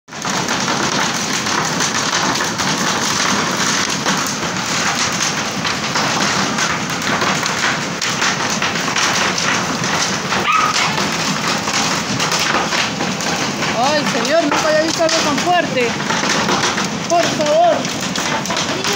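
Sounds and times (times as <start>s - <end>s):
heavy hail falling: 0.1s - 18.9s.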